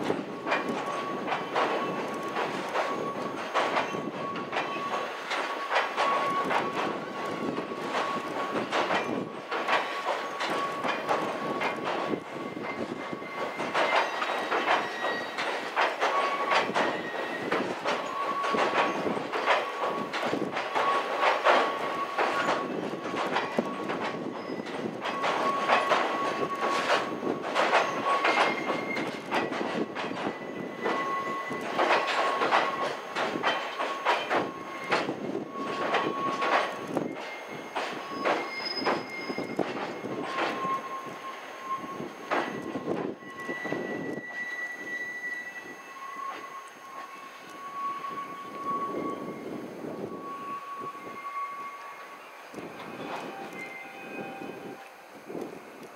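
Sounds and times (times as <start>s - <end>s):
train wheels clattering on bridge: 0.0s - 45.4s
high wheel squeal: 0.5s - 55.4s.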